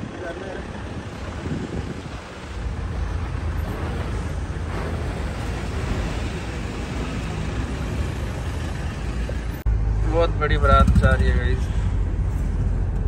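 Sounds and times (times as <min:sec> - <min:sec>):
traffic rumble inside car: 0:00.0 - 0:13.0.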